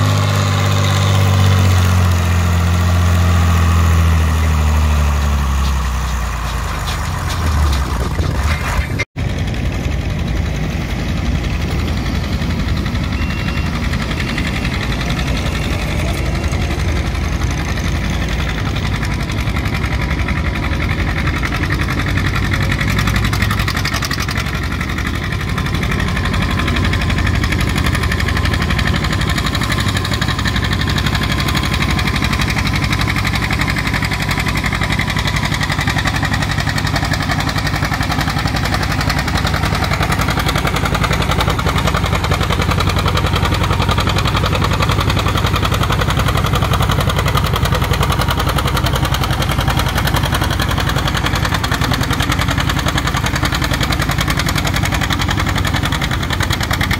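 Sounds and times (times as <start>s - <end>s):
tractor engine droning: 0.0s - 56.9s.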